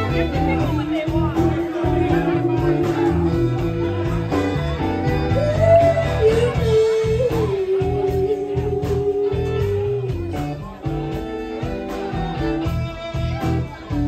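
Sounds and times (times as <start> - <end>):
live blues-rock band: 0.0 - 14.0.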